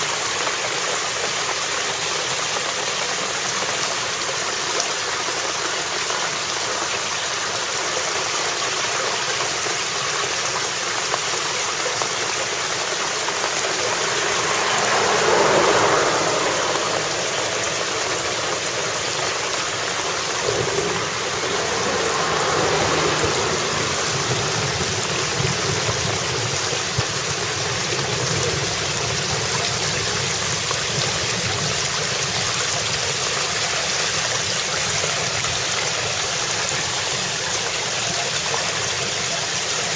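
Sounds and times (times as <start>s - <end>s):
heavy rain: 0.0s - 39.9s
water rushing into gutter: 0.0s - 39.9s.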